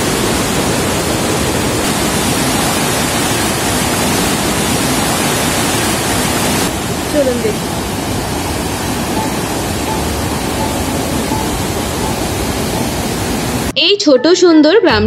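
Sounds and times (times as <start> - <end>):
stream rushing over rocks: 0.0 - 13.7.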